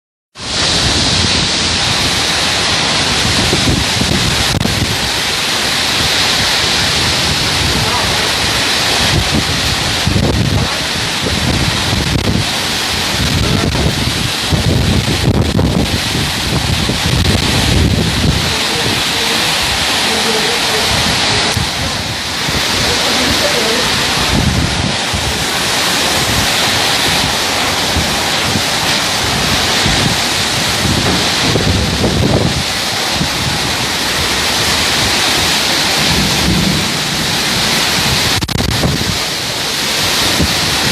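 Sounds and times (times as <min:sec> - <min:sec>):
heavy rain: 0:00.3 - 0:40.9
wind buffeting microphone: 0:00.4 - 0:40.9.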